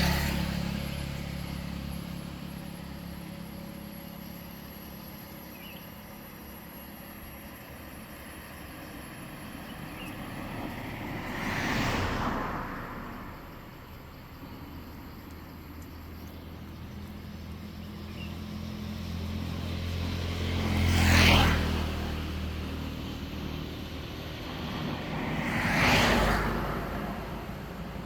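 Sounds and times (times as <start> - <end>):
road vehicles passing by: 0.0 - 28.0.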